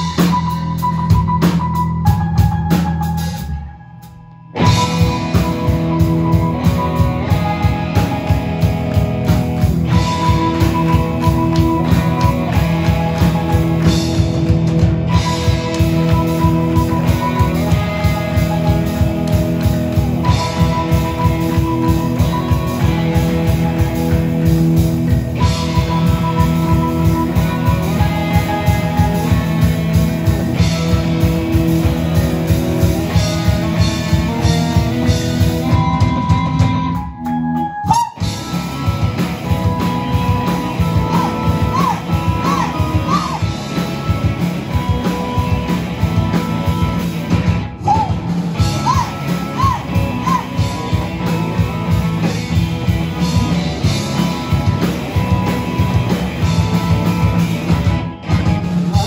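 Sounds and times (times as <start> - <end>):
driving drum beat: 0.0 - 3.6, 4.6 - 37.2, 37.9 - 59.0
live rock band playing: 0.0 - 59.0.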